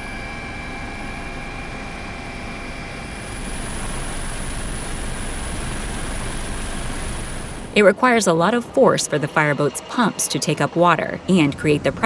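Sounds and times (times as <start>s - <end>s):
aircraft engine in flight: 0.0s - 12.0s
faint high whine: 0.0s - 12.0s.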